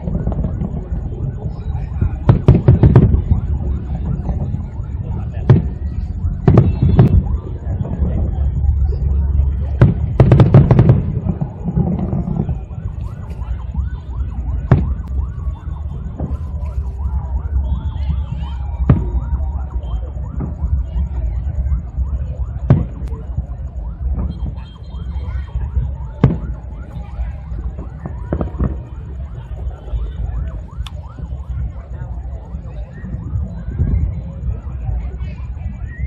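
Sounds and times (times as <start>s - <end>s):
low rumble: 0.0s - 29.7s
fireworks bangs: 0.0s - 36.0s
fireworks whistling: 0.0s - 36.0s.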